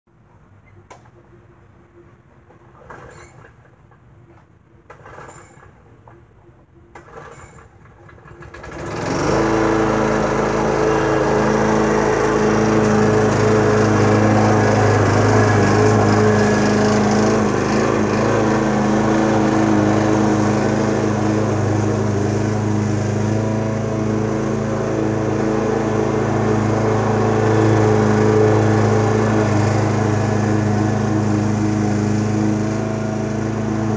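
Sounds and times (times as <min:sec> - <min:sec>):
lawn mower engine running: 0:00.9 - 0:06.1, 0:06.9 - 0:33.9.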